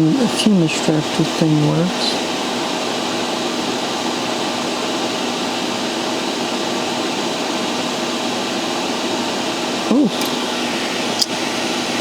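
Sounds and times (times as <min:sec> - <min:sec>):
fan whooshing hum: 0:00.0 - 0:12.0.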